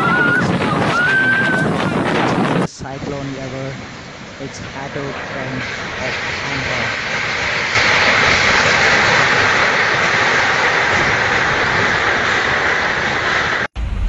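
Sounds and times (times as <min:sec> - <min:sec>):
strong wind blowing: 0:00.0 - 0:14.0.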